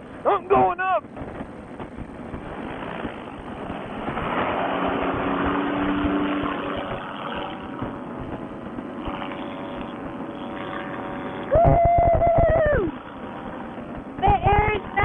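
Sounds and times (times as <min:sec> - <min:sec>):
paramotor engine and propeller: 0:00.0 - 0:15.0.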